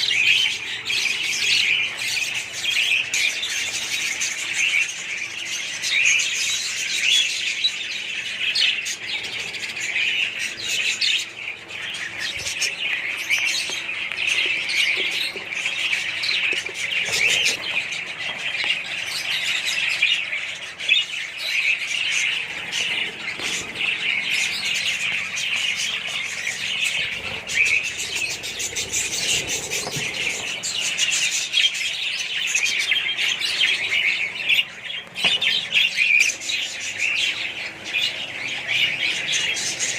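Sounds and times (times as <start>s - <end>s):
flock of budgerigars chattering: 0.0s - 39.9s.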